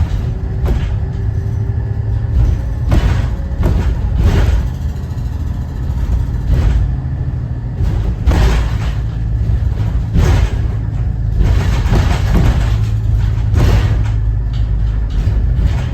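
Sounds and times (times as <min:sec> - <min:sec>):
bus body rattling and banging: 0:00.0 - 0:15.9
diesel engine rumbling: 0:00.0 - 0:15.9.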